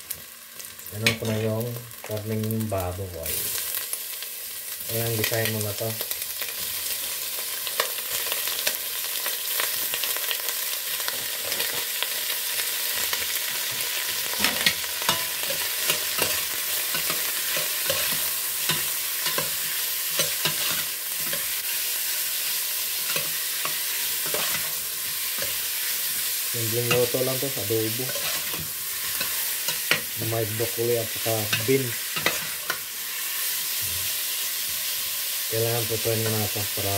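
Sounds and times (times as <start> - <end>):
meat sizzling in hot oil: 0.0 - 36.9.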